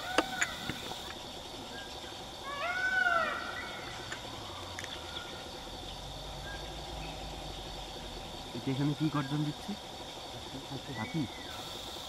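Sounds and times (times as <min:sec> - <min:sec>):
faint steady background noise: 0:00.0 - 0:12.0.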